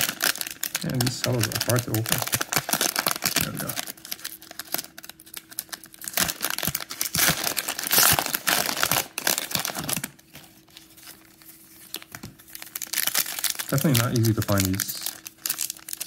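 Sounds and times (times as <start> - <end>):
cellophane wrapper crinkling and tearing: 0.0 - 16.0.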